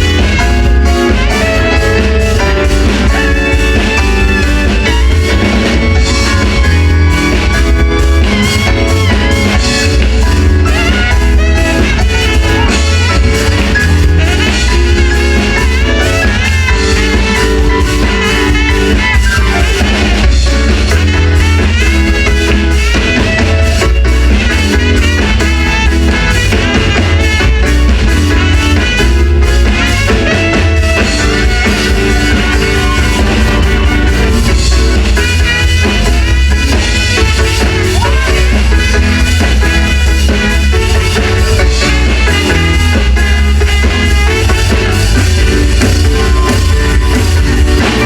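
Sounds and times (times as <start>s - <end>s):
live soul band playing: 0.0s - 48.0s.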